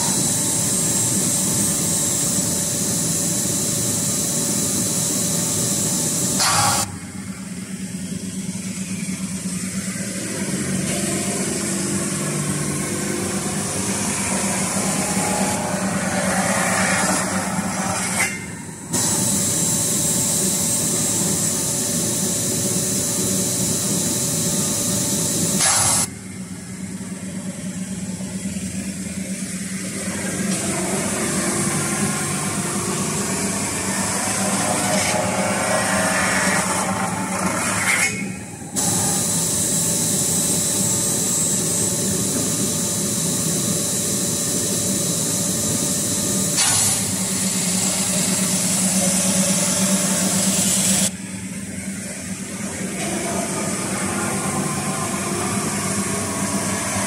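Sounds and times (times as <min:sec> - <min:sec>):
metal spinning machine hum: 0:00.0 - 0:57.0.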